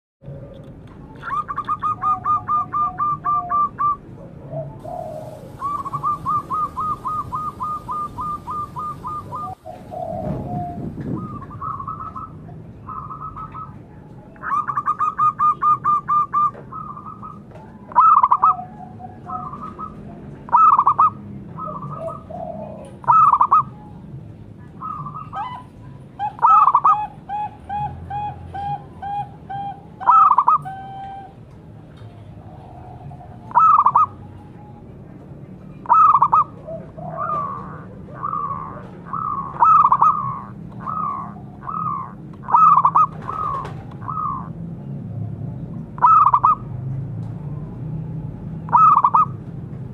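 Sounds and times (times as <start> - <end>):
doves cooing: 0.2 - 31.5, 32.1 - 49.4.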